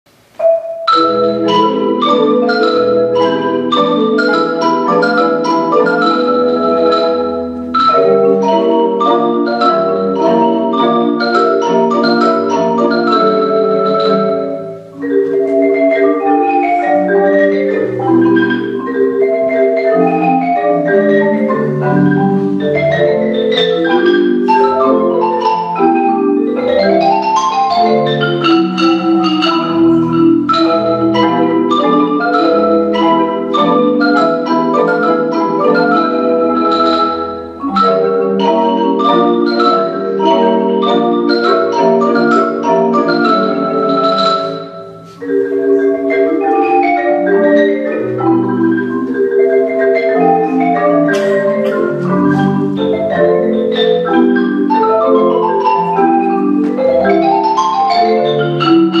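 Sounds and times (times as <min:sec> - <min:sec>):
marimba ensemble playing: 0:00.3 - 0:59.0.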